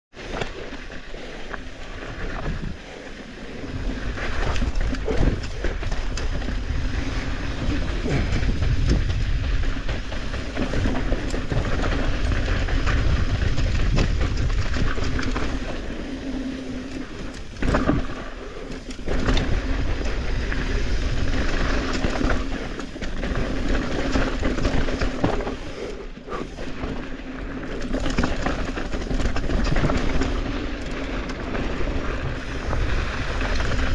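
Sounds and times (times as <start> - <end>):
bike rattling over bumps: 0.1 - 33.9
bike tyres on loose dirt: 0.1 - 33.9.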